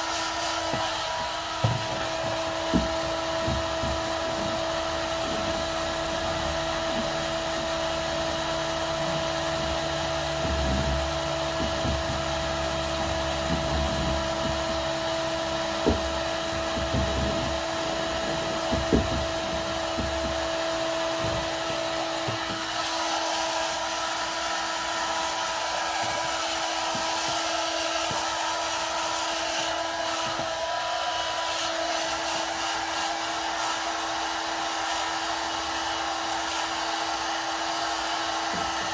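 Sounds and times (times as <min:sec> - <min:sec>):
heat gun blowing: 0:00.0 - 0:38.9.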